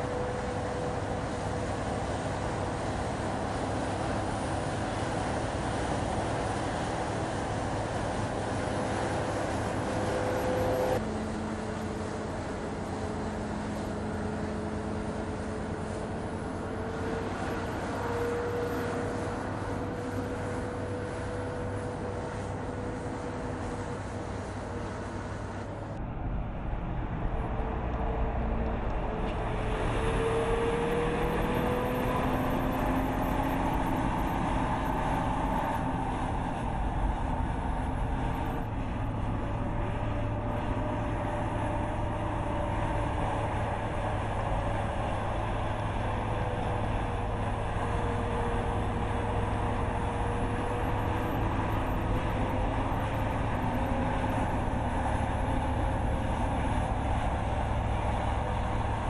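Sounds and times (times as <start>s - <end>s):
truck diesel engine driving: 0.0s - 59.0s
tyre and road noise: 0.0s - 59.0s.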